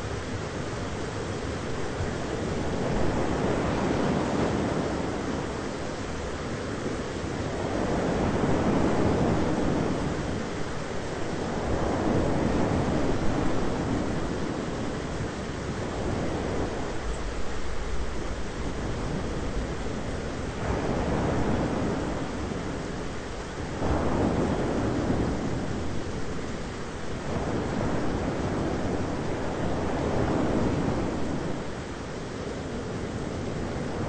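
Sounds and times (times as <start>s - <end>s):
low rushing storm noise: 0.0s - 34.0s.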